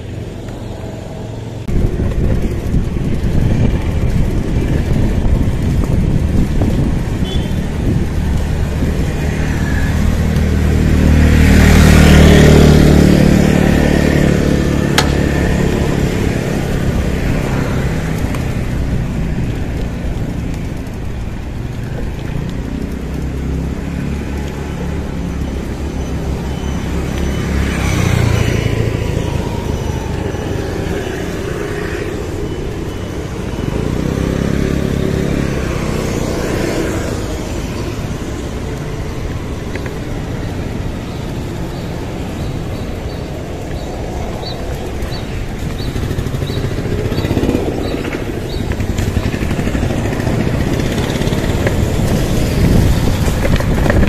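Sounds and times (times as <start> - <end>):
motor vehicles passing: 0.0 - 54.0.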